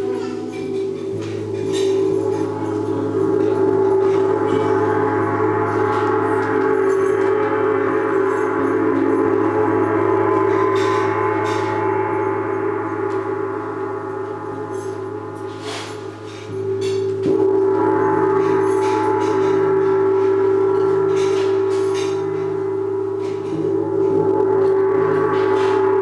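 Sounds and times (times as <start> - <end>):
gong struck with soft mallet: 0.0 - 26.0.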